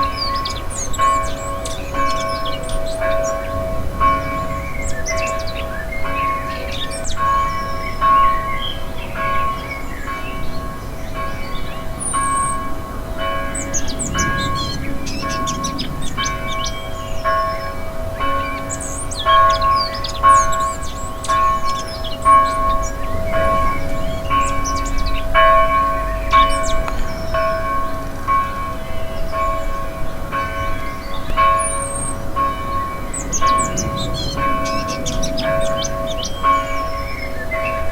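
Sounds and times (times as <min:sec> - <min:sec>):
birds chirping: 0:00.0 - 0:37.9
church bell tolling: 0:00.0 - 0:37.9.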